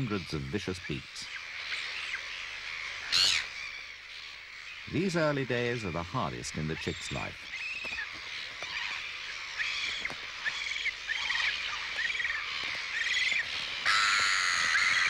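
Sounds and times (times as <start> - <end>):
gulls calling: 0.0 - 15.0.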